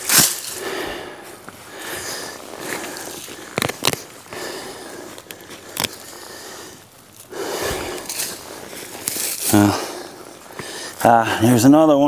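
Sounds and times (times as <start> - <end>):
scraping and rustling in soil: 0.0 - 11.7.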